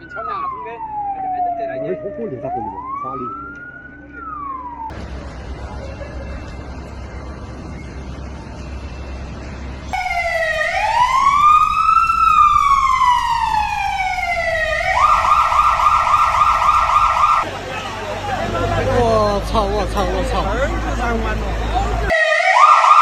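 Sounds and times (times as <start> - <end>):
emergency vehicle siren: 0.0 - 23.0.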